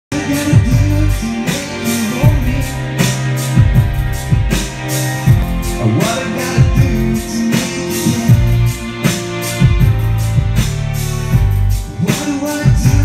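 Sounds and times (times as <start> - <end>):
pop song with guitar and drums: 0.1 - 13.0.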